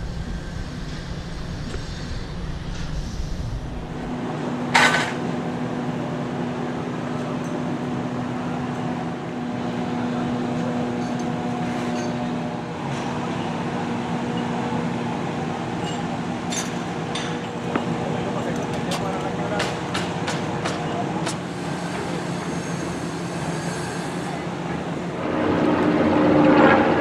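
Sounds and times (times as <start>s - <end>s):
construction machinery humming: 0.0s - 27.0s.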